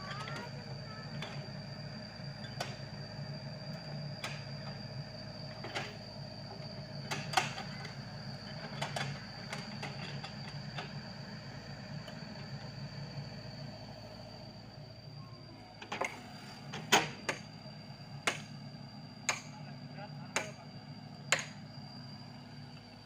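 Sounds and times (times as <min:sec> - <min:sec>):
excavator engine running: 0:00.0 - 0:23.0.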